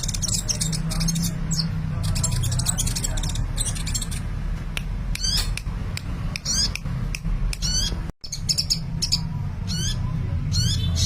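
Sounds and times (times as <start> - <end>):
bird chirps and trills: 0.0 - 4.4, 5.1 - 5.7, 6.3 - 11.0.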